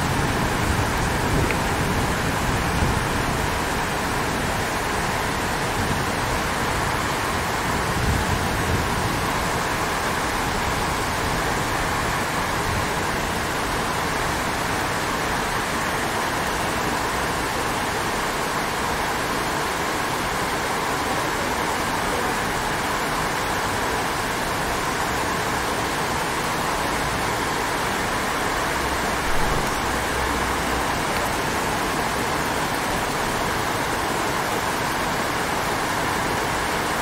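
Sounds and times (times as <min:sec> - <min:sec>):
heavy rain hissing: 0:00.0 - 0:37.0.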